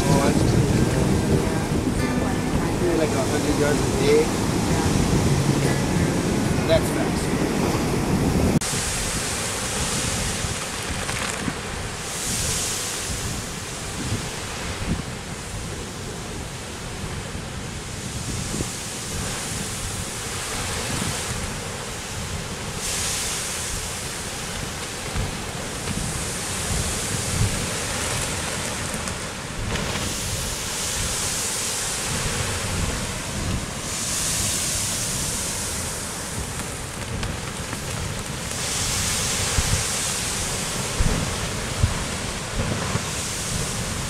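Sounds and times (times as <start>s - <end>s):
surf and steam rushing: 0.0s - 44.0s
wind buffeting microphone: 0.0s - 44.0s.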